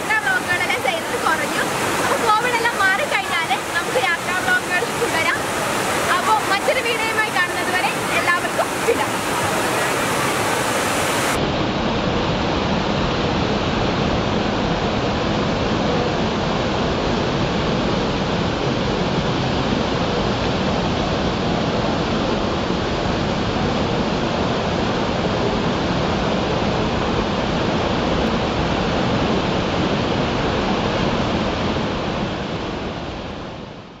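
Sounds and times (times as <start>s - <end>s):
waterfall rushing: 0.0s - 33.5s.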